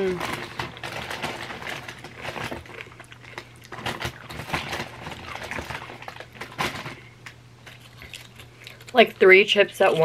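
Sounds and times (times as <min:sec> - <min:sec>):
crunchy chips chewing: 0:00.0 - 0:10.0.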